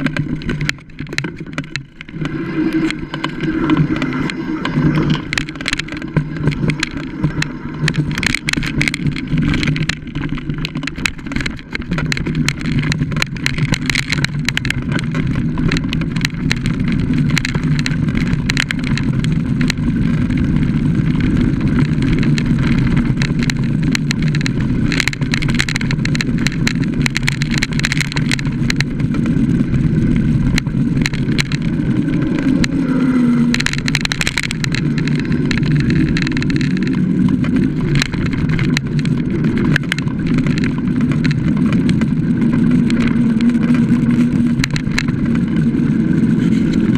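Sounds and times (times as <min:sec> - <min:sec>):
bike rattling over bumps: 0:00.0 - 0:46.9
wind and tyre noise: 0:00.0 - 0:46.9.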